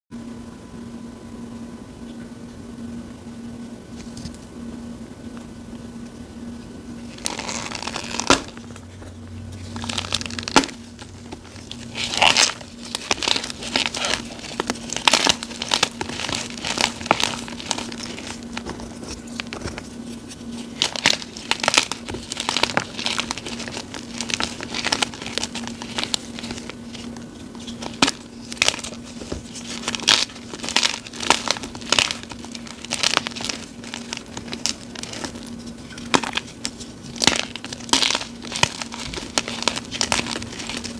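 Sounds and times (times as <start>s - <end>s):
faint steady hum: 0.1s - 40.9s.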